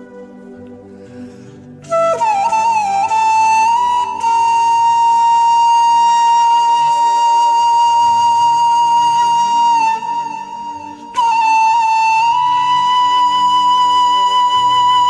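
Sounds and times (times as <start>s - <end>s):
bamboo flute melody: 0.0s - 15.0s
low drone: 0.0s - 15.0s.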